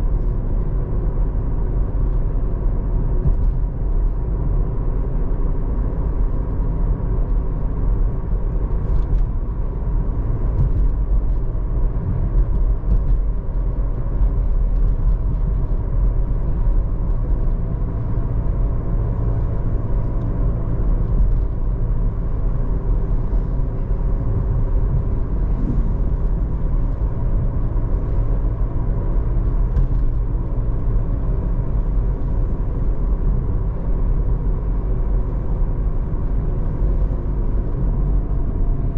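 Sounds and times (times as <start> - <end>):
car tyre and road noise: 0.0 - 38.9.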